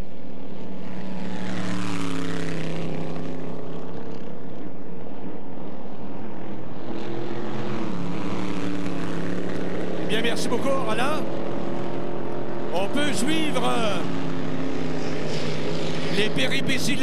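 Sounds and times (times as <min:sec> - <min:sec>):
race boat engine passing by: 0:00.1 - 0:17.0.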